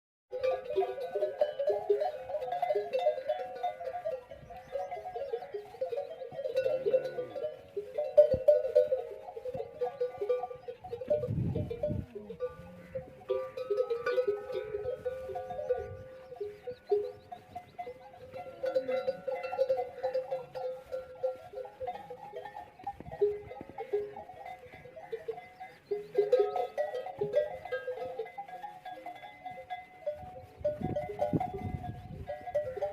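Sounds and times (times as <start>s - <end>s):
camel bells clanking: 0.3s - 32.9s.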